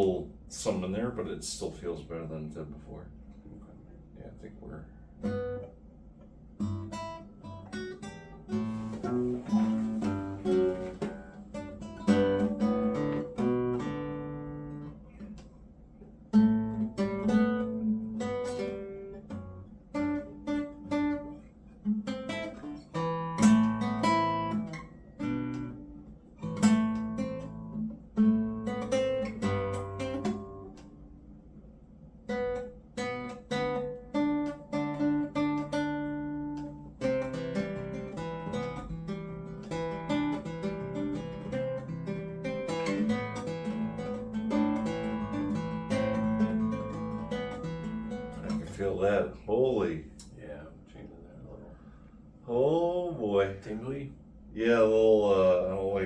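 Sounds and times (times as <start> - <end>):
acoustic guitar playing: 5.0 - 50.2.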